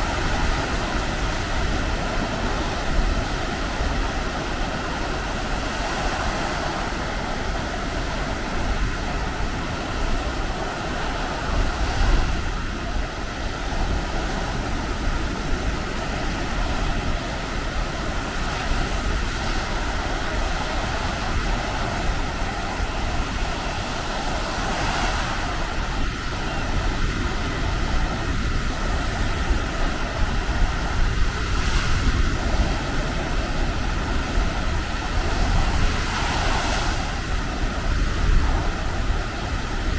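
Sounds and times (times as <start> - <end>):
surf washing onto beach: 0.0 - 39.9
wind rumbling on microphone: 0.0 - 39.9.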